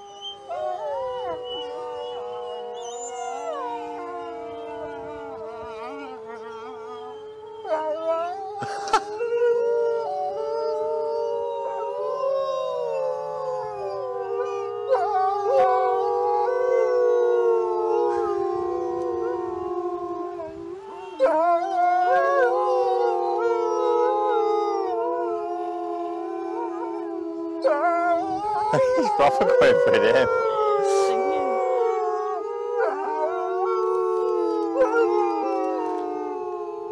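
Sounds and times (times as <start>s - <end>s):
wolves howling in chorus: 0.0s - 36.9s.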